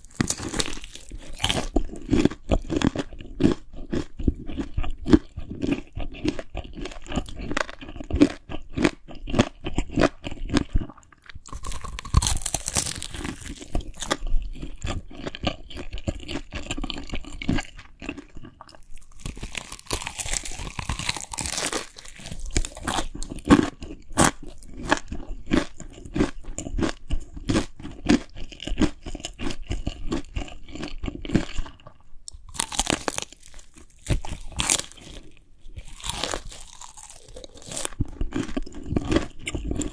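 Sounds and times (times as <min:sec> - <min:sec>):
crunchy chewing of food: 0:00.0 - 0:39.9.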